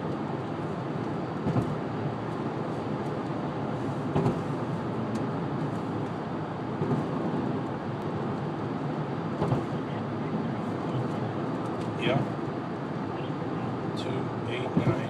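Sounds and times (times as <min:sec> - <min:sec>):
road and engine noise in car: 0:00.0 - 0:15.0.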